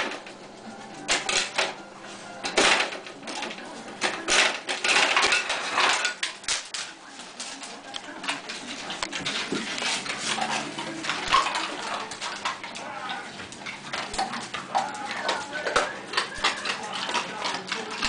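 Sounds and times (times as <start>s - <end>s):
dog claws scraping and tapping: 3.3s - 18.0s.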